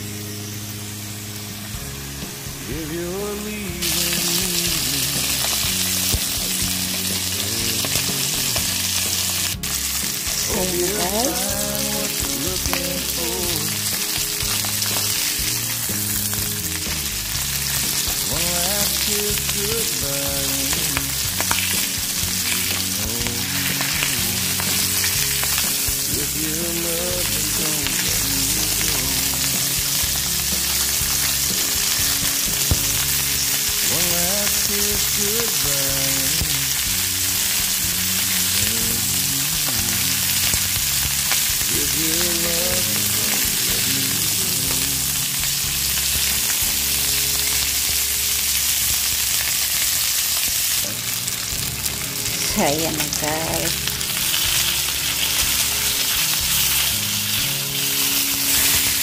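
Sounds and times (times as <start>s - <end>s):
fish sizzling in oil: 0.0s - 59.0s
song playing in background: 0.0s - 59.0s.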